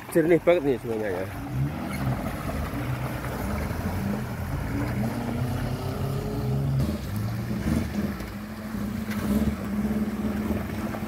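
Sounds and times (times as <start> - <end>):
water washing around vehicle: 0.0 - 11.0
engine running at low revs: 1.2 - 11.0.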